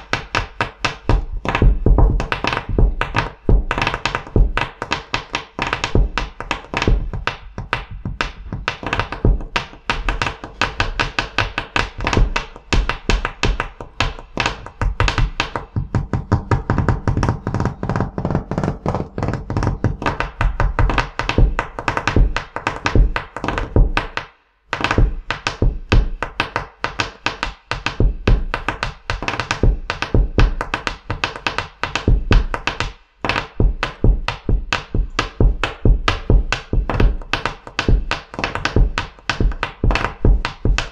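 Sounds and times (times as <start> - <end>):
hands drumming on wooden tabletop: 0.0 - 40.9.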